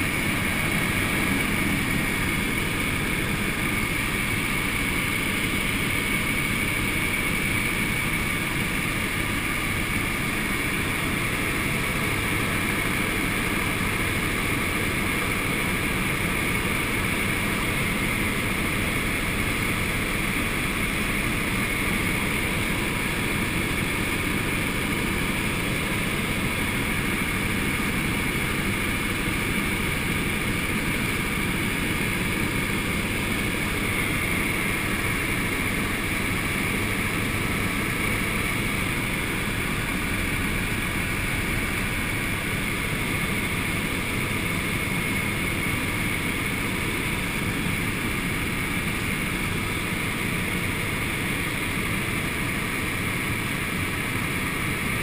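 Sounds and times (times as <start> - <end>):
helicopter rotor and engine noise: 0.0 - 55.0
steady high whine: 0.0 - 55.0.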